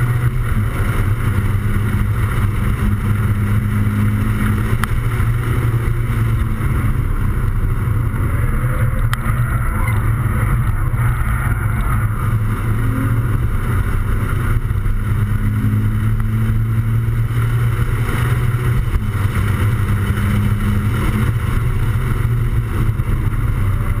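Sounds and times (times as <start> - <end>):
car engine droning: 0.0 - 24.0
wind rush: 0.0 - 24.0.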